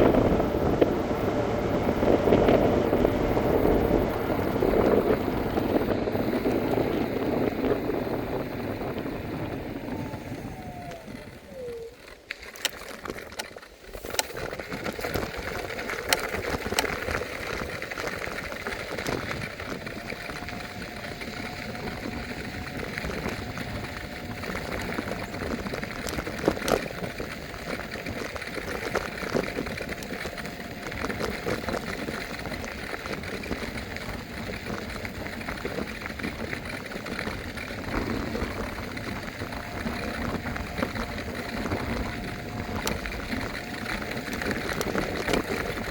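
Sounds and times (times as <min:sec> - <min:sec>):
faint motor whine: 0:00.0 - 0:45.9
tyre and wind noise: 0:00.0 - 0:45.9.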